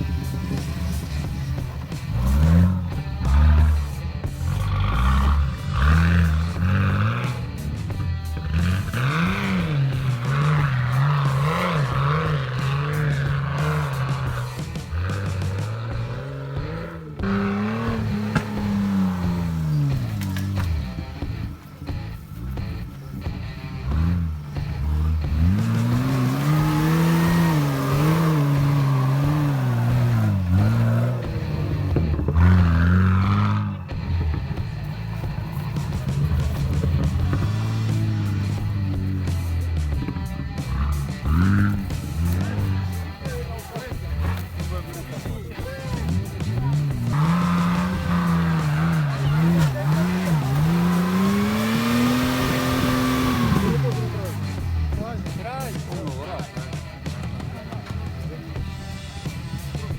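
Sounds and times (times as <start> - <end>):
petrol engine revving: 0.0 - 59.9.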